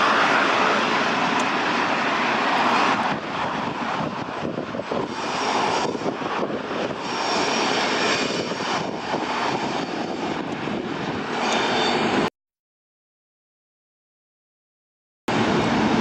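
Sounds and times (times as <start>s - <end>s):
freight train rumbling: 0.0s - 12.3s, 15.3s - 16.0s.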